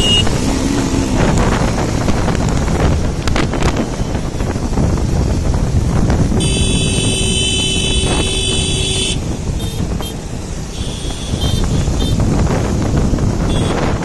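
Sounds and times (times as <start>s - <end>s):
motorcycle engine at speed: 0.0s - 14.0s
wind buffeting: 0.0s - 14.0s.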